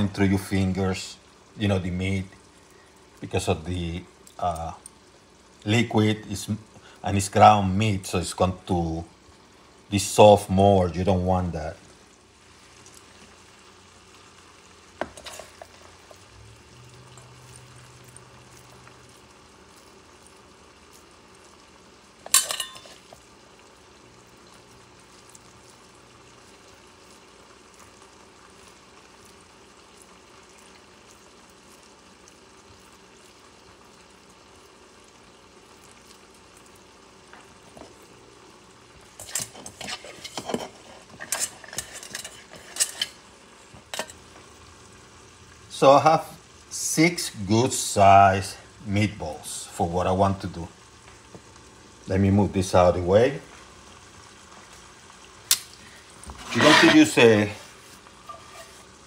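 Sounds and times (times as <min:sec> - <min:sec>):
faint hiss: 0:00.0 - 0:59.0.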